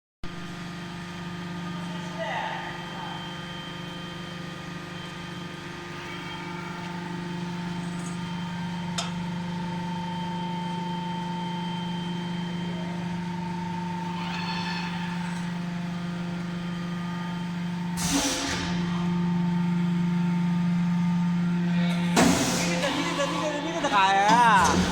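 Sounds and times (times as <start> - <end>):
die-casting machine humming: 0.3 - 24.9.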